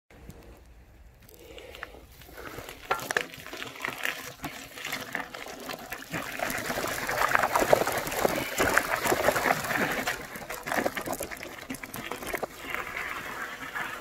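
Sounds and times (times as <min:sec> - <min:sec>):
bicycle tyres splashing through puddle: 0:01.4 - 0:14.0.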